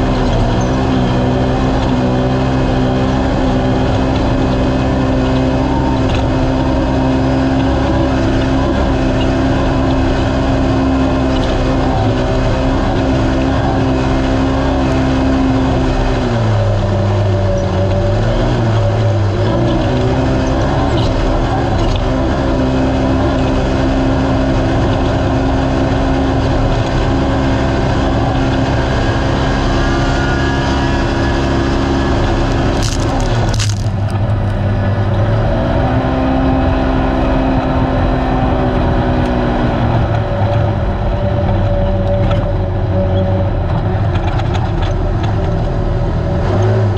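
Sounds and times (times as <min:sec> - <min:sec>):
driving noise: 0:00.0 - 0:46.9
race engine at high revs: 0:00.0 - 0:46.9.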